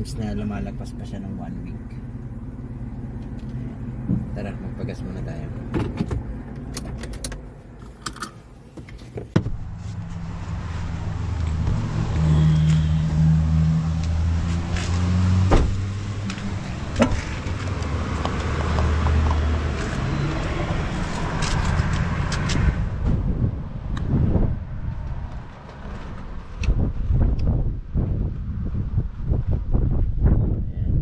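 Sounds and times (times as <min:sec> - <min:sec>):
car engine hum: 0:00.0 - 0:30.7
road noise: 0:00.0 - 0:31.0.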